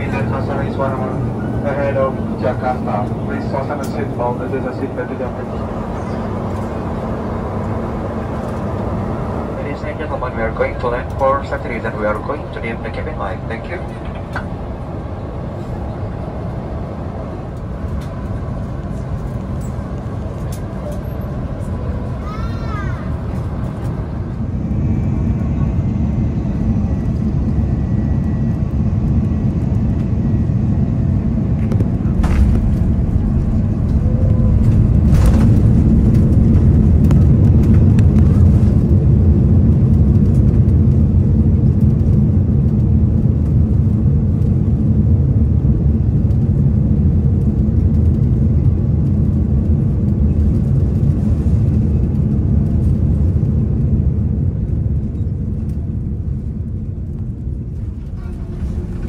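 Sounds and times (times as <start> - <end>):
aircraft landing rumble: 0.0 - 59.0.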